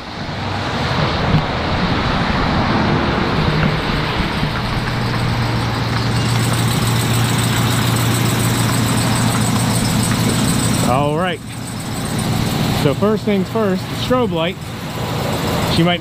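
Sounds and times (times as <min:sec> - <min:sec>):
constant rushing noise: 0:00.0 - 0:16.0
truck engine humming: 0:00.0 - 0:16.0.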